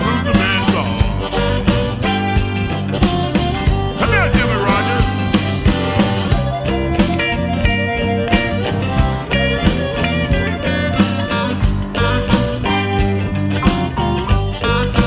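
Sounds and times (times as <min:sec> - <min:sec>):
bass and drums beat: 0:00.0 - 0:15.0
blues guitar: 0:00.0 - 0:15.0.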